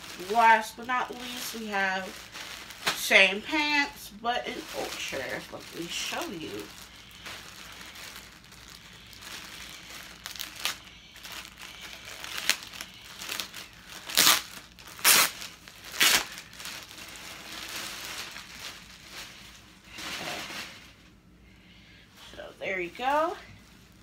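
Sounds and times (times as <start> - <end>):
plastic bag crinkling: 0.0 - 21.1.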